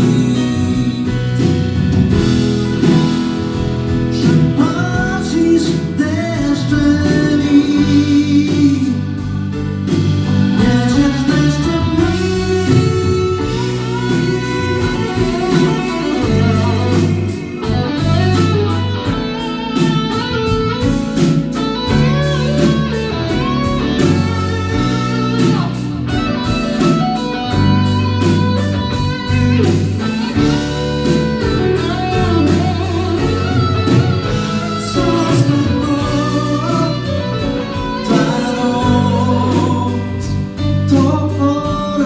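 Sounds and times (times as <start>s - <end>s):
bass guitar: 0.0s - 42.0s
drums with steady cymbal beat: 0.0s - 42.0s
guitar: 0.0s - 42.0s
keyboards: 0.0s - 42.0s.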